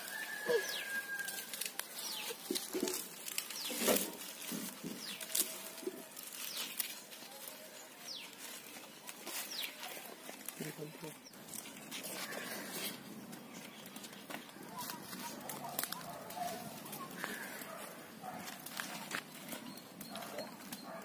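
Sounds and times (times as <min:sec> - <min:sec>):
dry twigs and leaves snapping: 0:00.0 - 0:21.0.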